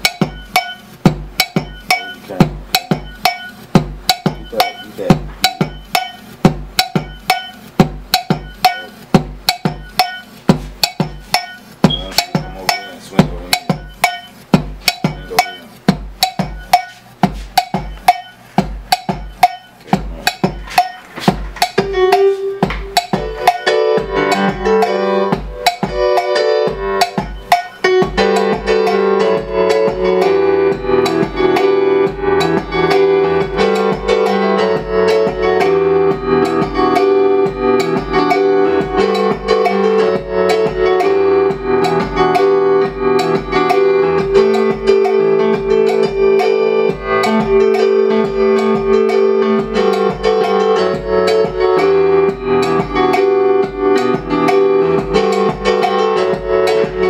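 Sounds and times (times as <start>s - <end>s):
keyboard held chords: 0.0s - 57.0s
programmed drum beat: 0.0s - 57.0s.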